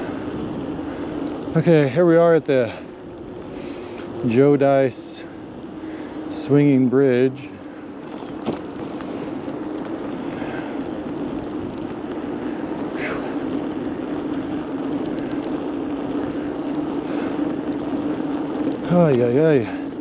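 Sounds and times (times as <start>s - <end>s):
bicycle road noise: 0.0s - 20.0s
low hum: 0.0s - 20.0s.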